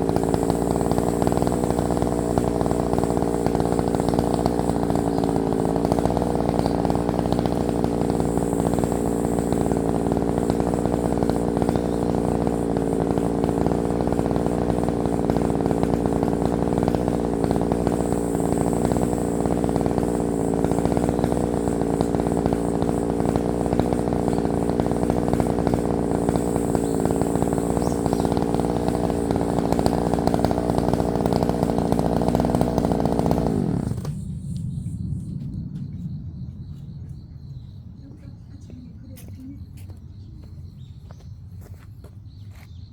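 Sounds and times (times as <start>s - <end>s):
chainsaw engine running: 0.0s - 34.6s.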